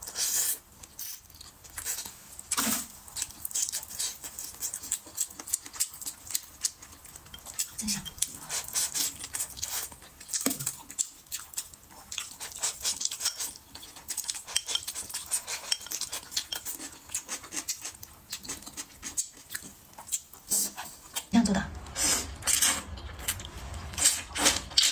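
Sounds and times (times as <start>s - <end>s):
wet chewing and lip-smacking: 0.8s - 21.3s.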